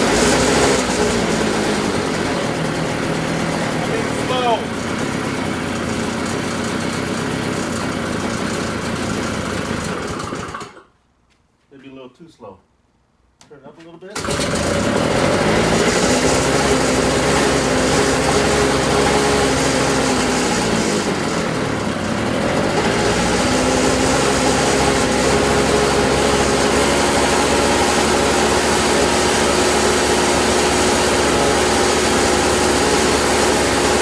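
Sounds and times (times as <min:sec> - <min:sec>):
small engine running: 0:00.0 - 0:10.9, 0:14.2 - 0:34.0.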